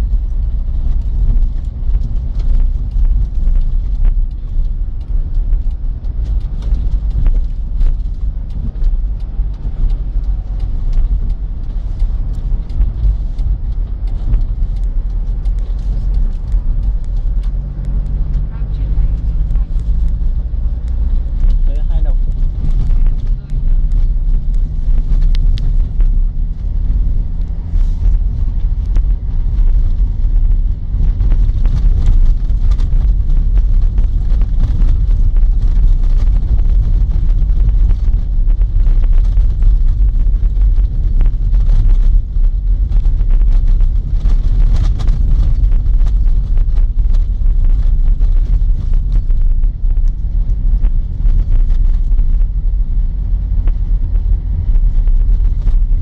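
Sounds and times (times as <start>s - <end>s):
car engine and road rumble: 0.0s - 56.0s
wind noise: 0.0s - 56.0s.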